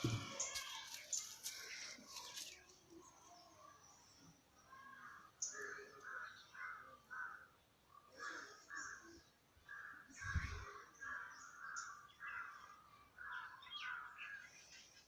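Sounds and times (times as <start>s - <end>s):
faint harsh bird calls: 0.0s - 15.0s.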